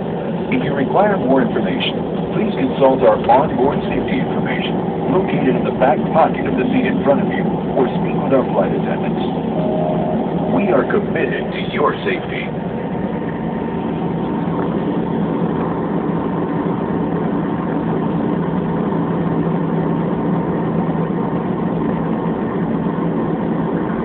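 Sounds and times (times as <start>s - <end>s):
airliner cabin engine rumble: 0.0s - 24.0s
faint steady whine: 0.0s - 24.0s.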